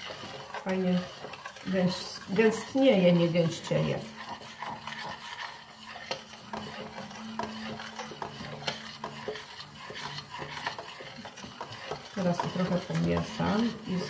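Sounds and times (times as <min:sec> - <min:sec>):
cheese being stirred in a pot: 0:00.0 - 0:14.0
utensil scraping and knocking pot: 0:00.0 - 0:14.0.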